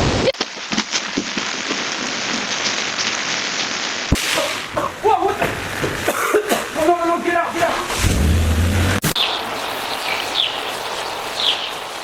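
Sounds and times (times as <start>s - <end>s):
hissing with crackles and pops: 0.0s - 12.0s.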